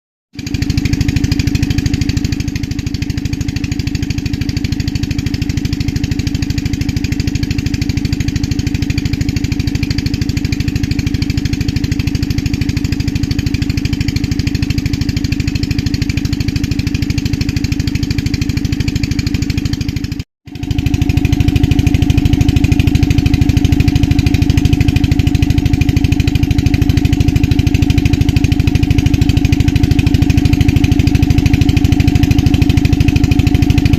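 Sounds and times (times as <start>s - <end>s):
engine running with fast pulse: 0.3s - 33.9s.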